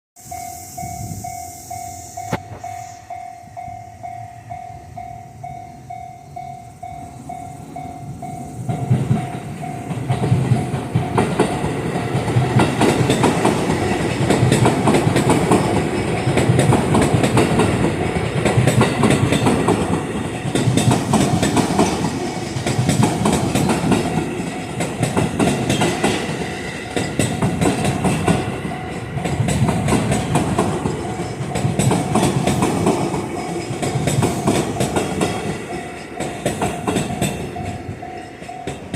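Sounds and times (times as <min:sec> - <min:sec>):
level crossing warning bell: 0:00.2 - 0:38.9
train wheels clattering on rails: 0:06.2 - 0:38.9.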